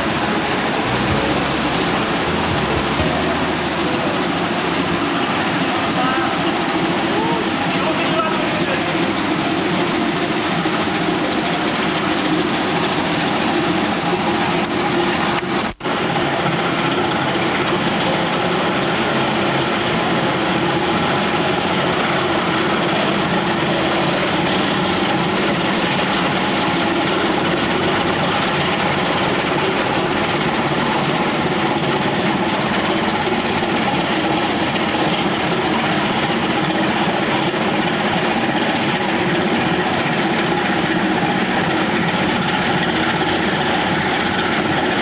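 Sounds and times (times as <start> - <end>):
boat diesel engines droning: 0.0 - 45.0
churning water: 0.0 - 45.0.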